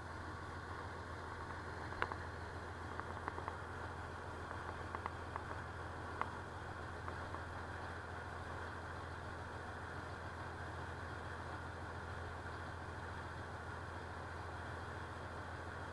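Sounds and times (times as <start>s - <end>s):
ferry engine drone: 0.0s - 15.9s.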